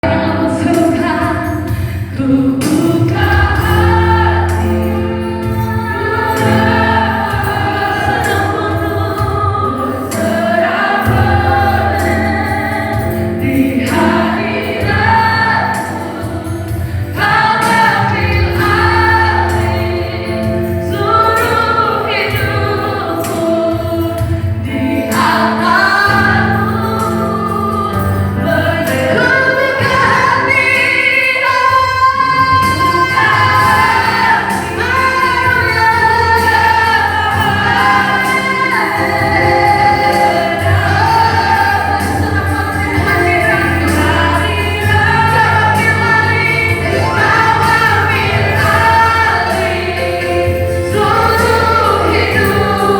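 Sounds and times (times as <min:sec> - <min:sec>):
choir singing gospel song: 0:00.0 - 0:52.9
instrumental accompaniment: 0:00.0 - 0:52.9.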